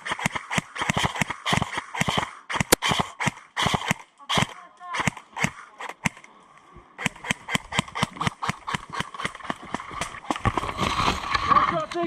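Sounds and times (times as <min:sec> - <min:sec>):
airsoft guns firing: 0:00.0 - 0:06.3, 0:07.0 - 0:10.4.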